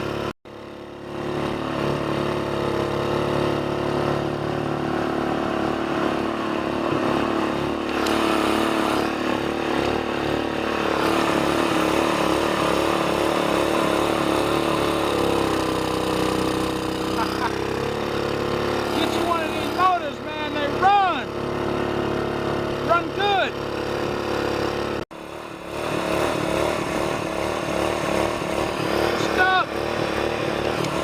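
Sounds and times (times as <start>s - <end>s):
small gas engine running: 0.0s - 31.0s.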